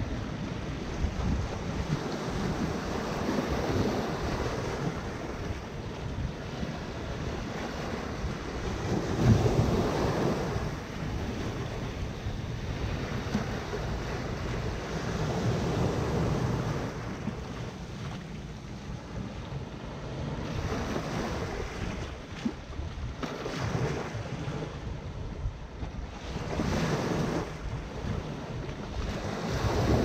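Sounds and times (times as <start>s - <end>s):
waves washing up a sandy shore: 0.0s - 30.0s.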